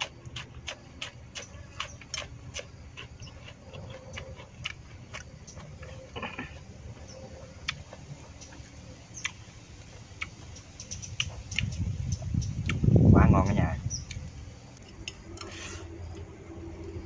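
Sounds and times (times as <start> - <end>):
handling and chewing noise: 0.0 - 12.9, 14.0 - 17.0.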